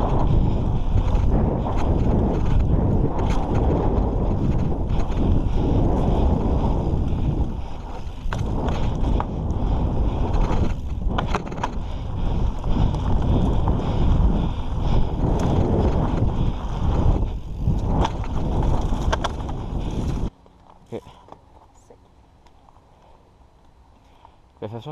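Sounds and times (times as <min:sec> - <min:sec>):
wind on microphone: 0:00.0 - 0:20.3
tyres rumbling on loose dirt: 0:00.0 - 0:21.5
bike clicks and rattles: 0:00.0 - 0:24.6.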